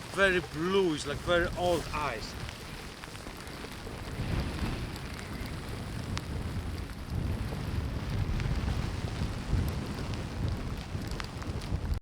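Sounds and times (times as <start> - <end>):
wind buffeting microphone: 0.0 - 12.0
faint ticks: 2.3 - 12.0.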